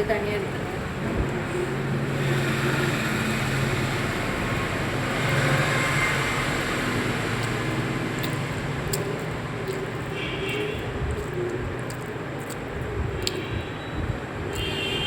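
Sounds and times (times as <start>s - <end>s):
moving vehicle rumbling: 0.0s - 15.0s.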